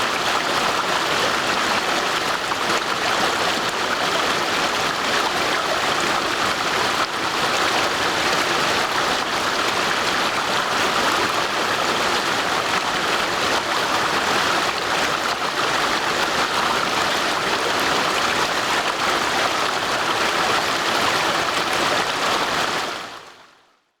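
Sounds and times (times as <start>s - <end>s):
stream water rushing: 0.0s - 23.1s.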